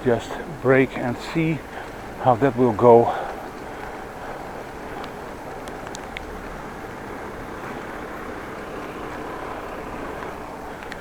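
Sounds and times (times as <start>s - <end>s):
traffic noise: 0.0s - 11.0s
vehicle running nearby: 0.0s - 11.0s.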